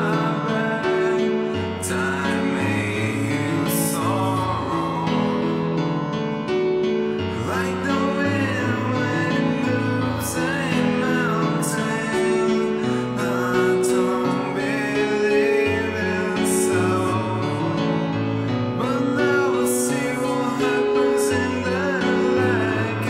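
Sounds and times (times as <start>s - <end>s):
held keyboard chords: 0.0s - 23.0s
person singing: 0.0s - 23.0s.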